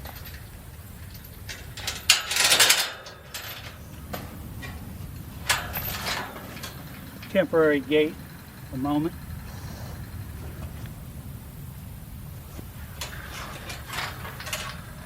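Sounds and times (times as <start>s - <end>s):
metal gate rattling and clanking: 0.0s - 15.0s.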